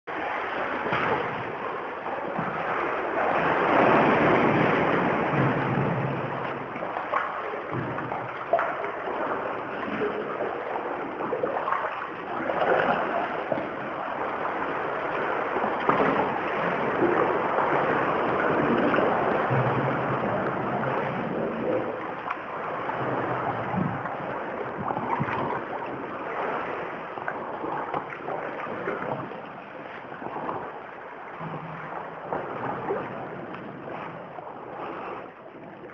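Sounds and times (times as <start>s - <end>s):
seawater sloshing and splashing: 0.1s - 35.9s.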